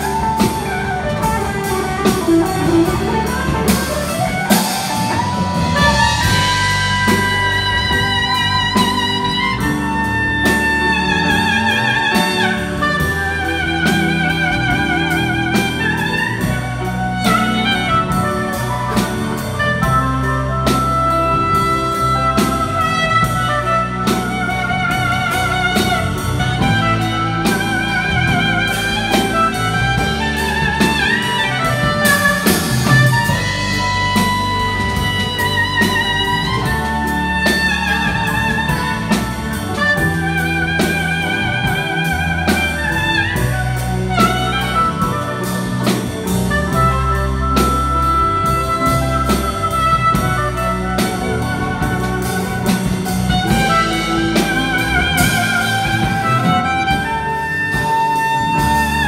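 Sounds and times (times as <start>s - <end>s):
jazz band playing: 0.0s - 59.0s.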